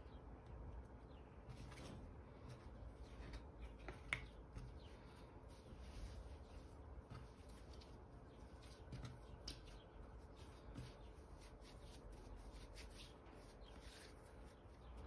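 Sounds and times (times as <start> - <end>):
hands kneading bread dough: 0.2 - 15.0.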